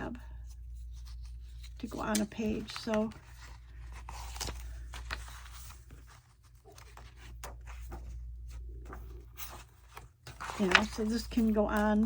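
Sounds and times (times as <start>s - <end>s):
paper rustling: 0.4s - 12.0s.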